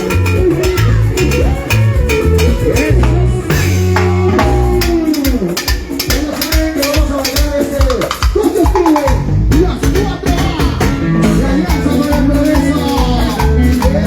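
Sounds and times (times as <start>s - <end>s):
latin band music: 0.0s - 14.0s.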